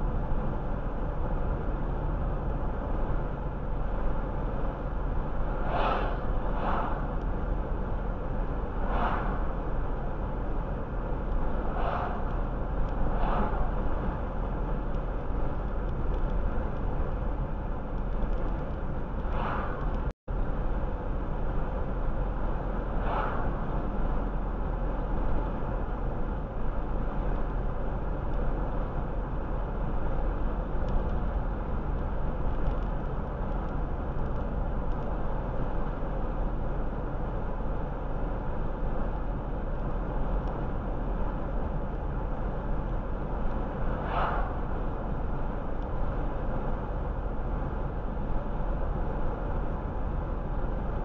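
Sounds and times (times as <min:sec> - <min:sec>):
road and tyre noise: 0:00.0 - 0:51.0.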